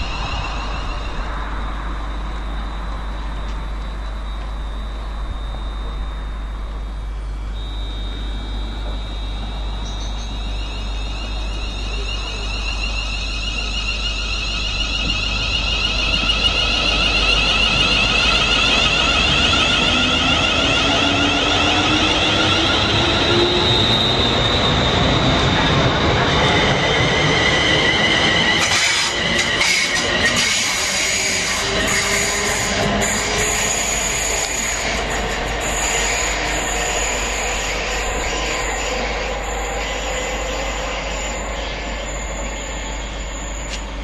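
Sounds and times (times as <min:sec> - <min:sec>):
electric train passing: 0:00.0 - 0:44.0
high electric motor whine: 0:00.0 - 0:44.0.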